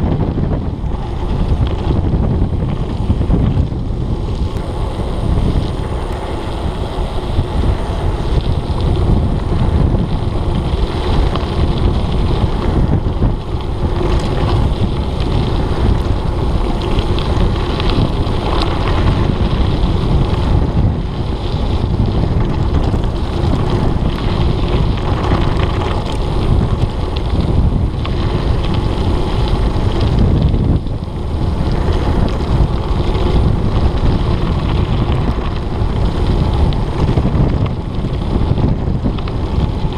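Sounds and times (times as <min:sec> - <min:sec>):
ticks of gravel or bike parts: 0:00.0 - 0:39.9
tyres rumbling over gravel: 0:00.0 - 0:39.9
wind rushing over microphone: 0:00.0 - 0:39.9.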